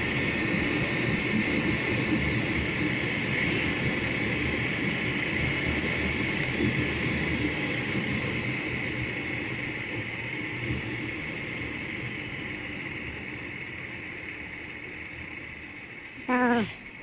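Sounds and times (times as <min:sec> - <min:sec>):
road hiss: 0:00.0 - 0:17.0.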